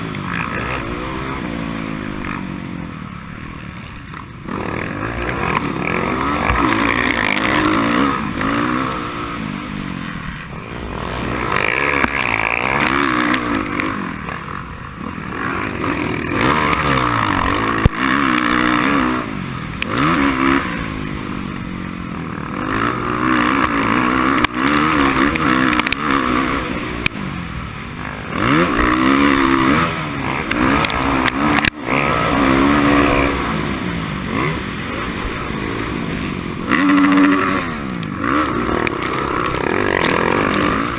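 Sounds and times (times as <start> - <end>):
racing motorcycle engine revving: 0.0 - 40.9.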